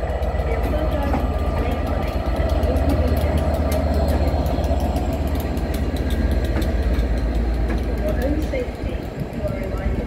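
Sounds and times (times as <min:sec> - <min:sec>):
diesel locomotive engine hum: 0:00.0 - 0:10.0
rapid wheel clicks on rails: 0:00.0 - 0:10.0.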